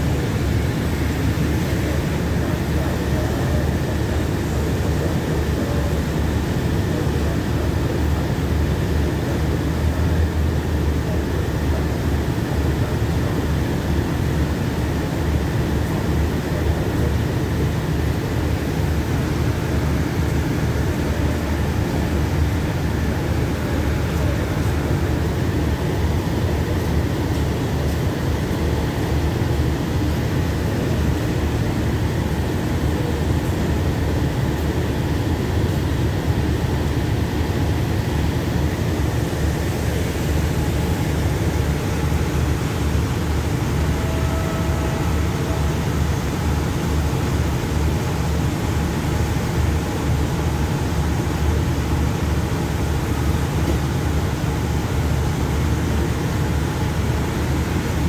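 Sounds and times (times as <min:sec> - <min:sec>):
diesel train idling: 0:00.0 - 0:58.0.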